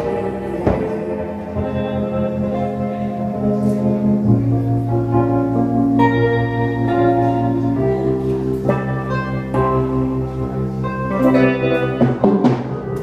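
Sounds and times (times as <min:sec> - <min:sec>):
organ-like keyboard chords: 0:00.0 - 0:13.0.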